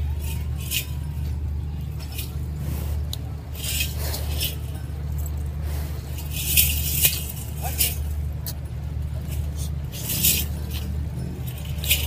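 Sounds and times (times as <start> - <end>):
rustling and scraping: 0.0 - 12.0
steady low hum: 0.0 - 12.0.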